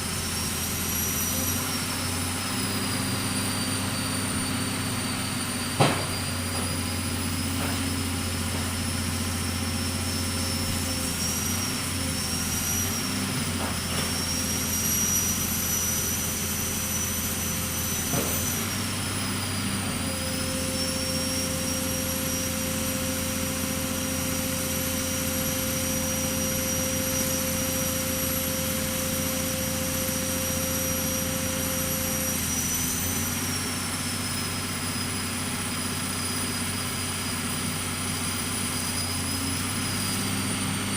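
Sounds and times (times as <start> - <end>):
machine engine humming and whining: 0.0 - 40.9.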